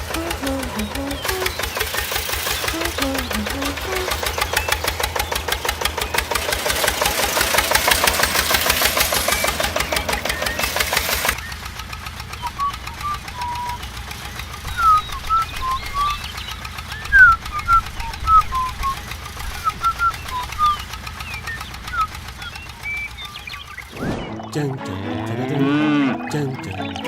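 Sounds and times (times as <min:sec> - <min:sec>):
small motor ticking: 0:00.0 - 0:24.0.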